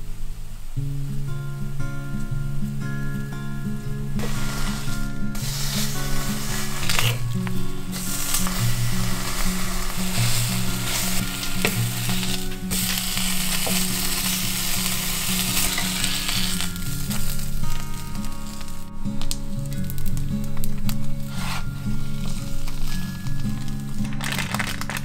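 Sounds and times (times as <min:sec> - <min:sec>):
soft background music: 0:00.0 - 0:25.0
food sizzling in hot oil: 0:04.2 - 0:24.4.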